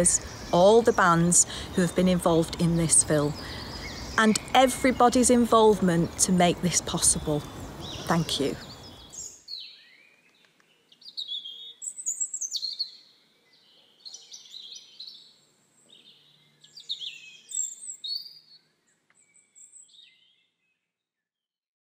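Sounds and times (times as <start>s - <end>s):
songbirds chirping and trilling: 0.0s - 21.2s.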